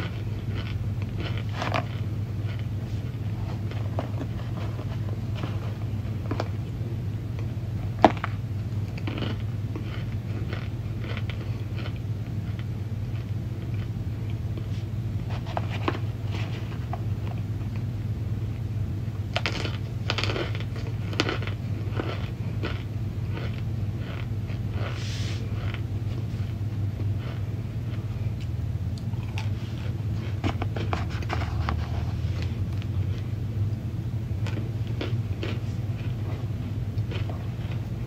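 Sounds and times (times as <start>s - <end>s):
cornstarch crunching: 0.0s - 6.8s, 7.4s - 17.8s, 19.3s - 33.3s, 34.4s - 38.0s
steady low hum: 0.0s - 38.0s.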